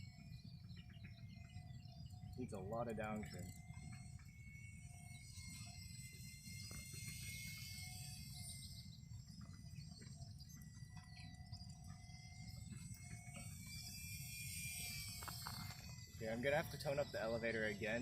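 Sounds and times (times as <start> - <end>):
insects: 0.0 - 18.0
thin high whine: 0.0 - 18.0.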